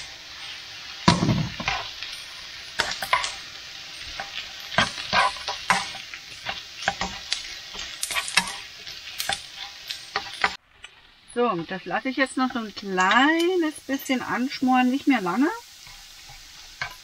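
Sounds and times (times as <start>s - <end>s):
food sizzling: 0.0s - 17.0s
spatula scraping frying pan: 0.0s - 17.0s.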